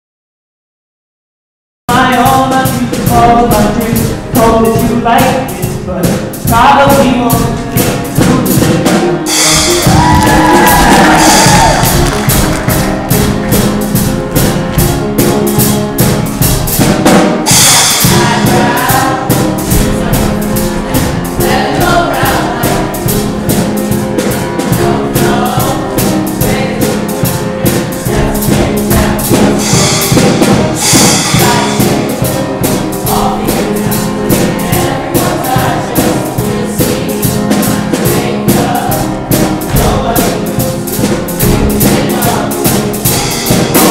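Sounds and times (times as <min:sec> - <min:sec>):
backing band with steady drum beat: 0:01.9 - 0:43.9
show choir singing: 0:02.0 - 0:43.9.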